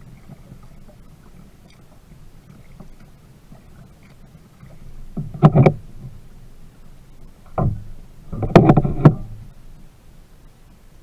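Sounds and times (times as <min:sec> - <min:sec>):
paddle splashing: 0:00.0 - 0:09.6.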